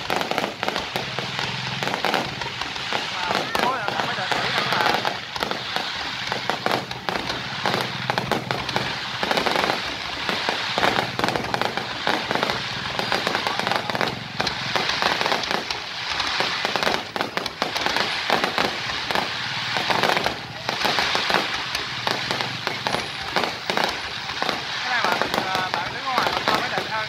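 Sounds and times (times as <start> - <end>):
fireworks crackling and bursting: 0.0 - 27.0.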